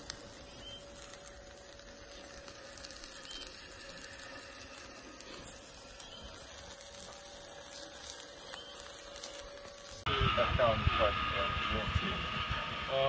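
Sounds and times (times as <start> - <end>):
faint steady hum: 0.0 - 13.0
fat sizzling on hot charcoal: 0.0 - 13.0.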